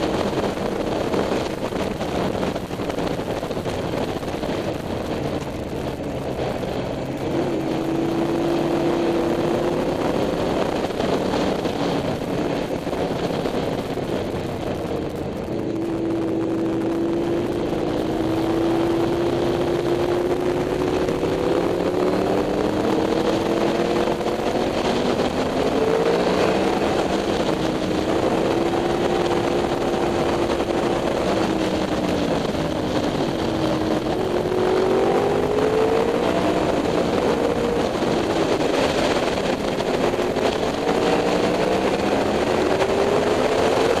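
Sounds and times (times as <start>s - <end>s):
motorcycle engine running: 0.0s - 44.0s
wind rushing: 0.0s - 44.0s.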